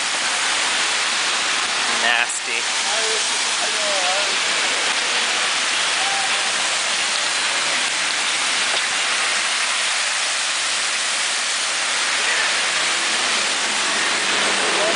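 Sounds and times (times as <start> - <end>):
heavy rain pouring on street: 0.0 - 14.9.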